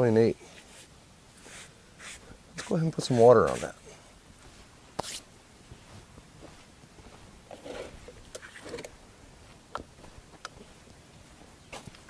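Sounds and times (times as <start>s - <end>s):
soft rustles: 0.4s - 12.0s.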